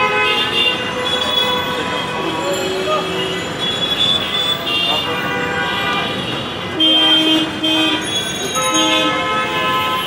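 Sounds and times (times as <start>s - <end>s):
traffic din: 0.0s - 10.0s
vehicle horns honking: 0.0s - 10.0s.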